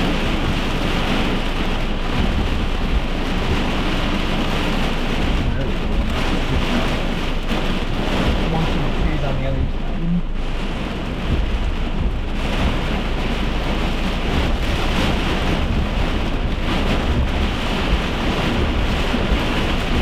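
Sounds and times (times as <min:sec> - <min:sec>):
heavy rain beating on a car: 0:00.0 - 0:20.0
low rumble: 0:00.0 - 0:20.0.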